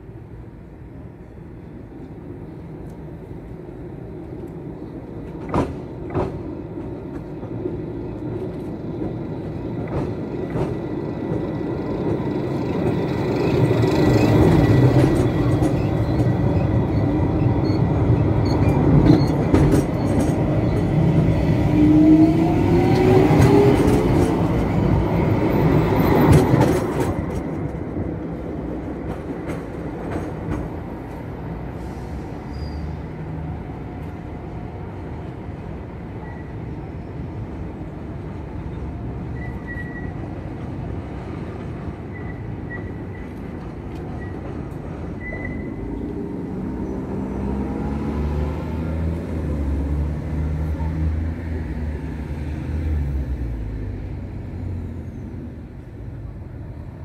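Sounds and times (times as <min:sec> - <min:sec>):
electric tram passing: 0:00.0 - 0:57.0.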